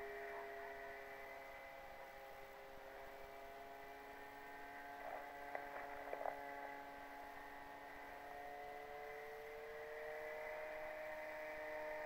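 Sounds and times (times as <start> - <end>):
electric model plane motor whine: 0.0 - 12.0.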